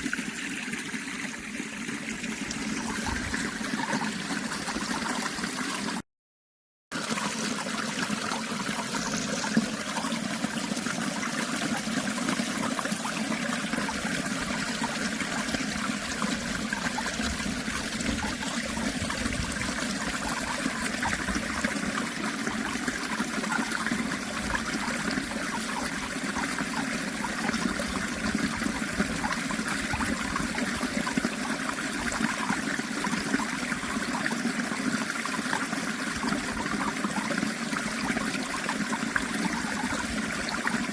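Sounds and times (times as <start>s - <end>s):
small stream flowing: 0.0s - 6.0s, 6.9s - 40.9s.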